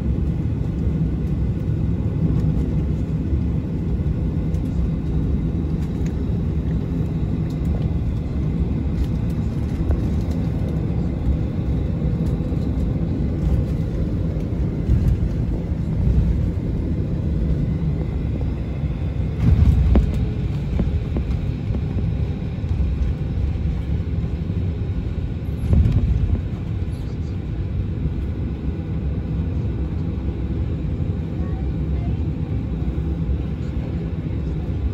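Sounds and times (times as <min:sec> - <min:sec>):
airplane cabin rumble while taxiing: 0:00.0 - 0:34.9.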